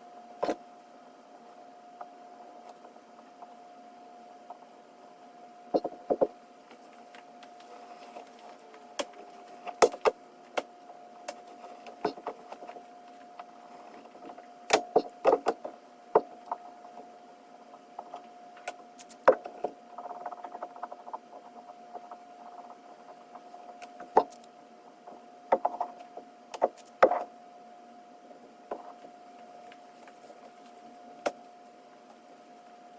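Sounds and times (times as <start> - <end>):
faint high hum: 0.0 - 32.9.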